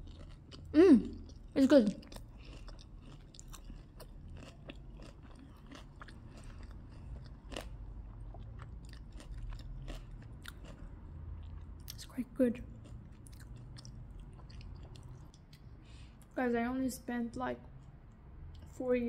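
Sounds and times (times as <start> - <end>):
person chewing: 0.0 - 16.4.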